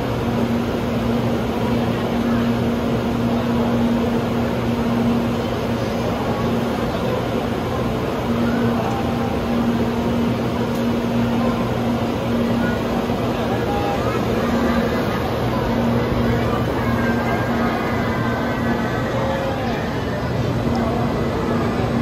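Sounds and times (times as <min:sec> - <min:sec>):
train electrical equipment humming: 0:00.0 - 0:22.0.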